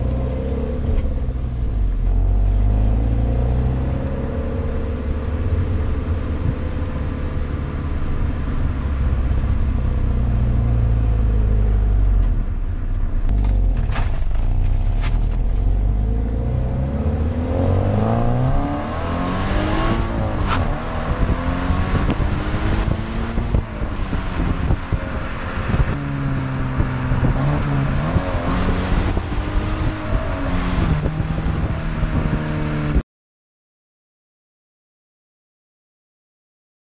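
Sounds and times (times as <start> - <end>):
car exhaust while driving: 0.0 - 33.0
road noise: 0.0 - 33.0
wind noise: 0.0 - 33.0.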